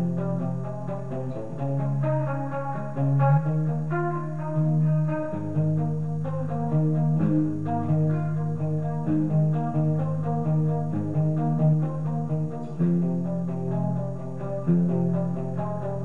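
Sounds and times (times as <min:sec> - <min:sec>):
electric guitar arpeggios: 0:00.0 - 0:16.0.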